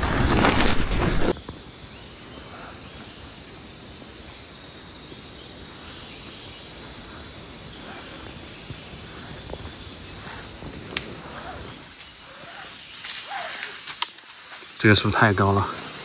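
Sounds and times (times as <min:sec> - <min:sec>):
insects chirping: 0:00.0 - 0:16.0
faint calls: 0:01.5 - 0:04.3, 0:05.1 - 0:16.0.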